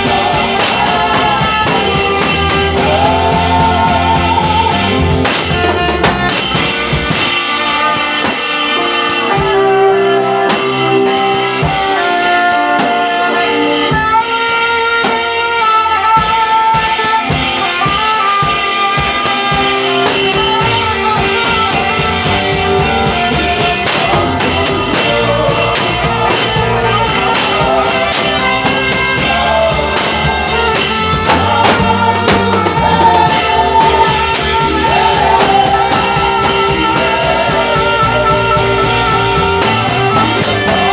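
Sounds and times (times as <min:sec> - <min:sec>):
backing band with guitar and drums: 0:00.0 - 0:40.9
saxophone slow melody: 0:00.0 - 0:40.9.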